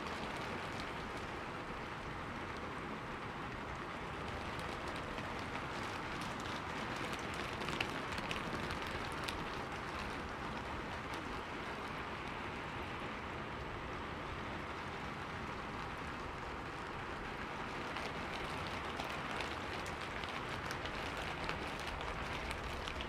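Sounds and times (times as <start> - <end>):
raindrop ticks: 0.0 - 2.7, 3.5 - 12.5, 14.6 - 23.0
rain on a street: 0.0 - 23.0.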